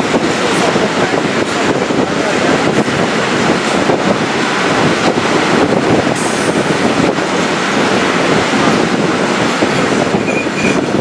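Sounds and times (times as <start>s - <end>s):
train wheels on track: 0.0s - 11.0s
wind on microphone: 0.0s - 11.0s.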